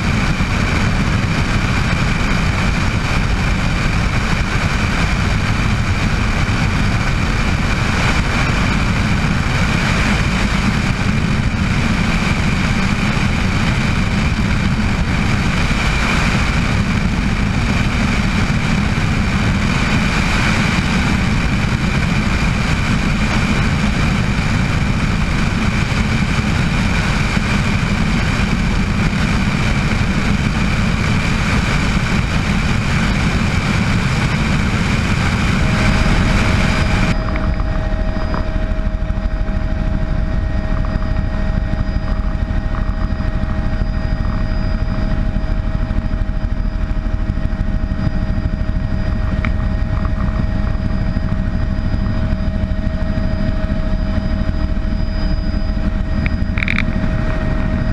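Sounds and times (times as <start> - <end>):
helicopter turbine and rotors: 0.0 - 57.9
steady whine tone: 0.0 - 57.9.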